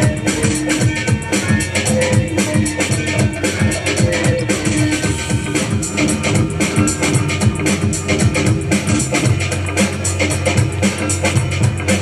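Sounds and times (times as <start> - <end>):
bass line: 0.0 - 12.0
breakbeat dance music: 0.0 - 12.0
steady drum beat: 0.0 - 12.0.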